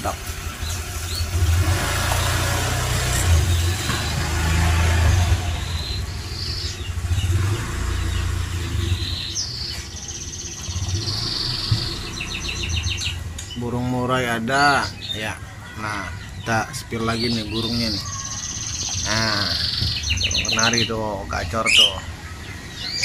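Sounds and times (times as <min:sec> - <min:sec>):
bird singing: 0:00.0 - 0:23.0.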